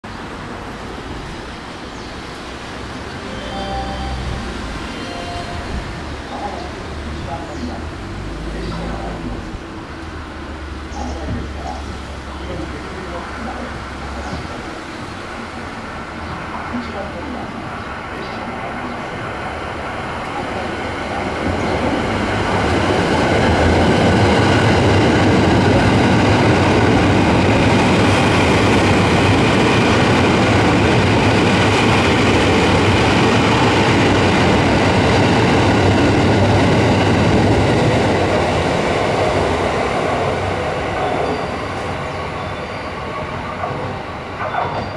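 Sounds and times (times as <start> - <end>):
train wheels on rails: 5.7 - 44.9.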